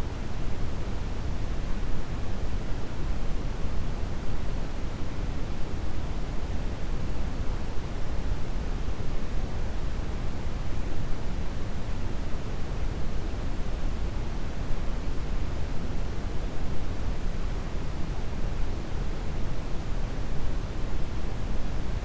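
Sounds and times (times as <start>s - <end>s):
brown noise hiss: 0.0s - 22.0s.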